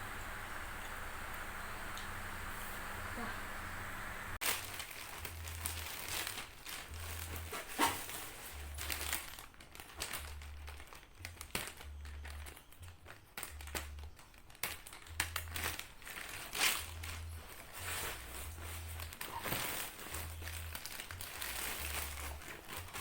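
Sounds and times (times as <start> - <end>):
crinkling and rustling handling: 4.4 - 23.0.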